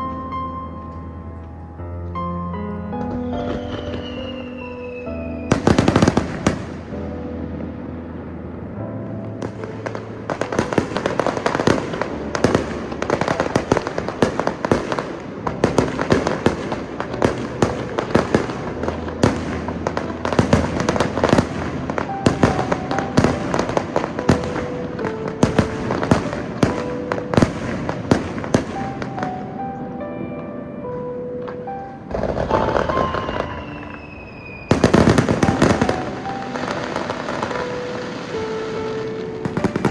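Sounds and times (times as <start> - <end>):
fireworks bursting: 3.1 - 30.1, 31.4 - 39.9.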